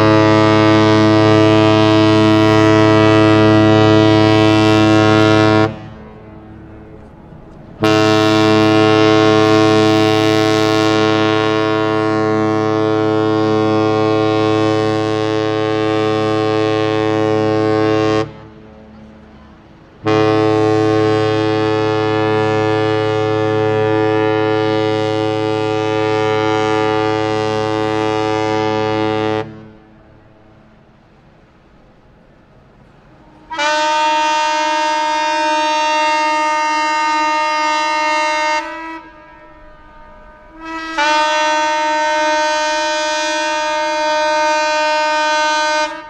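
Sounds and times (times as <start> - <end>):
ship's horn blasts: 0.0 - 31.5, 32.4 - 46.0.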